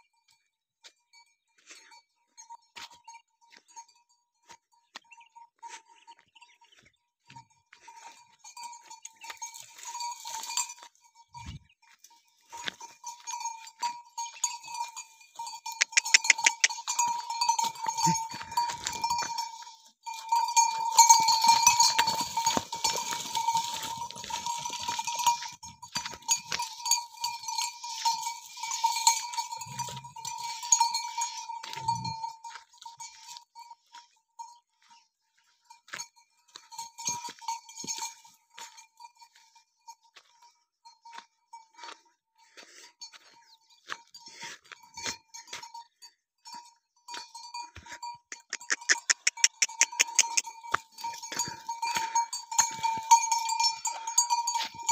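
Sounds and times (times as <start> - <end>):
livestock bell clanking: 0.0 - 54.9.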